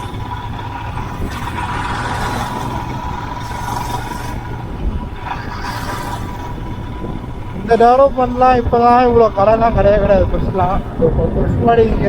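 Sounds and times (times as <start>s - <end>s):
motorcycle engine running: 0.0s - 12.0s
rush of noise: 0.0s - 12.0s.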